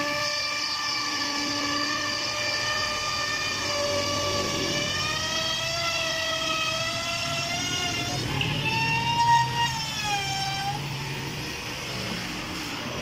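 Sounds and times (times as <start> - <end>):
electric router cutting wood: 0.0 - 13.0.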